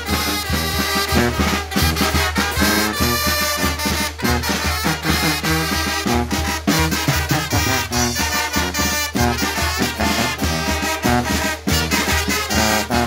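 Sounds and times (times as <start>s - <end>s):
bass drum and cymbal: 0.0s - 13.0s
trumpets and saxophones: 0.0s - 13.0s
tuba bass line: 0.0s - 13.0s.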